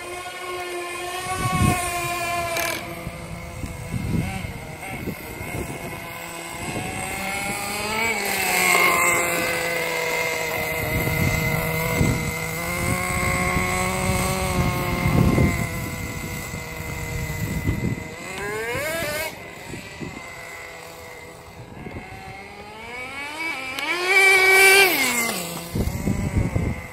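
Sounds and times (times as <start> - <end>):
rc car motor whining: 0.0 - 26.9.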